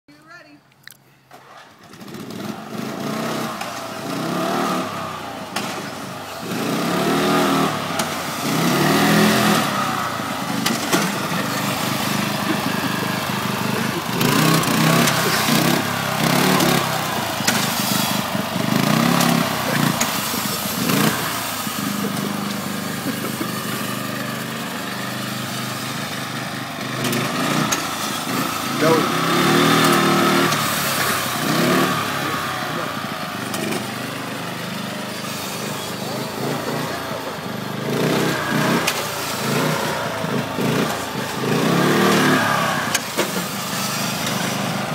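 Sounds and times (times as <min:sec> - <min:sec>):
small engine revving: 0:01.4 - 0:44.9.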